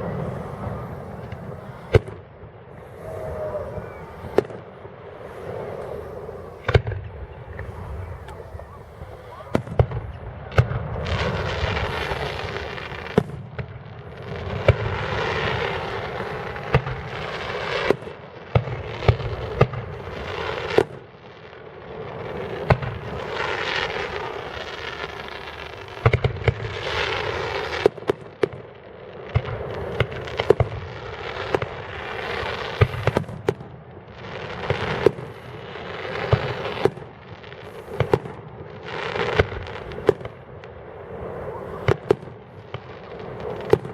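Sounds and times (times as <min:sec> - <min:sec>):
fireworks bangs: 0:00.0 - 0:43.9
fireworks hissing and crackling: 0:00.0 - 0:43.9.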